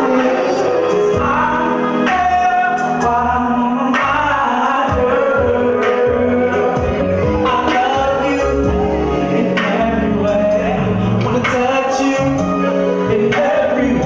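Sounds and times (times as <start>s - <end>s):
amplified backing music with drums: 0.0s - 14.0s
man singing into microphone: 0.0s - 14.0s.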